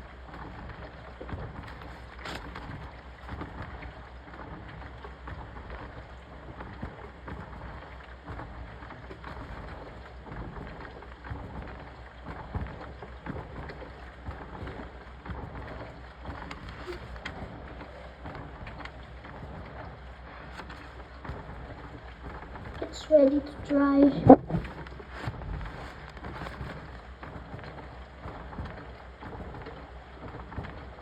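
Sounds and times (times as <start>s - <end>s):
washing machine rumbling: 0.0s - 31.0s
water swishing: 0.0s - 31.0s.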